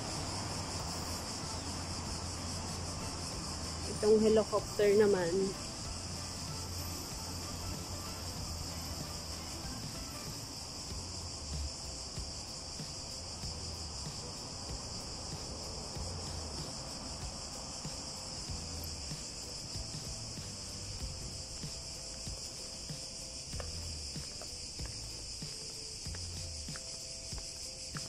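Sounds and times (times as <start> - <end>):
insects shrilling: 0.0 - 28.0.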